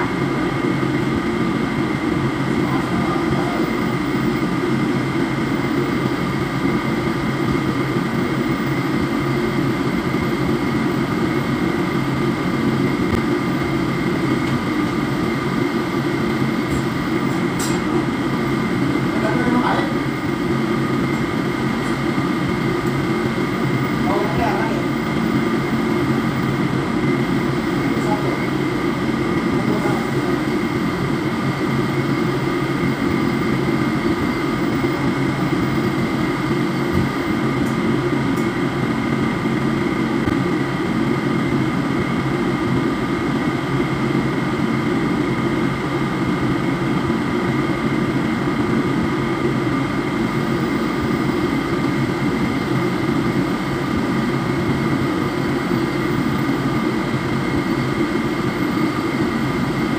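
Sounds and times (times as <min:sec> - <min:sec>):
ship machinery drone: 0:00.0 - 0:59.9.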